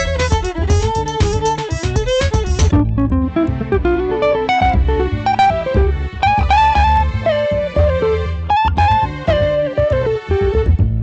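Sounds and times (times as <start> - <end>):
bass line: 0.0 - 11.0
plucked guitar melody: 0.0 - 11.0.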